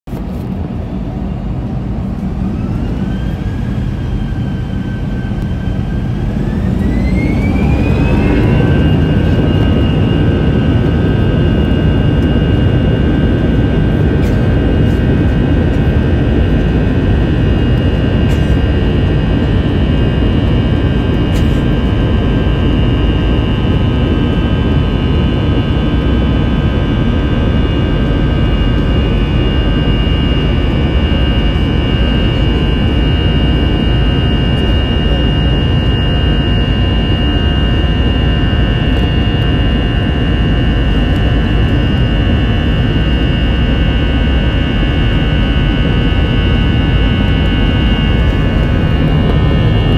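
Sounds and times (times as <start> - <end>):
heavy takeoff rumble: 0.0 - 49.9
jet engines whining: 0.1 - 49.9.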